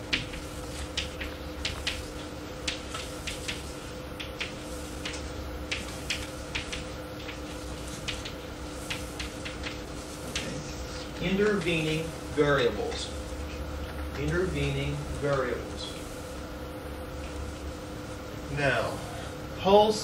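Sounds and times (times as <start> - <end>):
cassette hum and hiss: 0.0 - 20.0.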